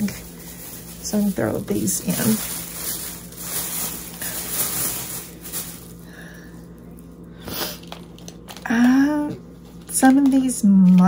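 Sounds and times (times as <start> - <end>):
rustling and handling noises: 0.0 - 11.0.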